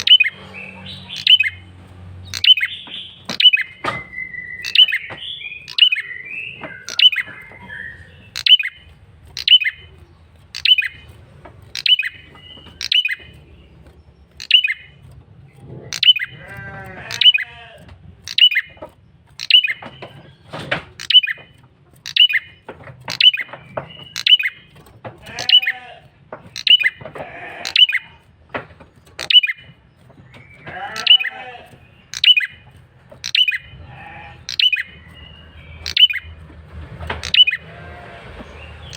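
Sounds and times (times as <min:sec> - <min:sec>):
bird sharp high calls: 0:00.0 - 0:13.4, 0:14.3 - 0:15.0, 0:15.9 - 0:18.8, 0:19.4 - 0:28.2, 0:29.1 - 0:36.3, 0:37.2 - 0:38.0
bird rattling chatter: 0:00.0 - 0:38.9.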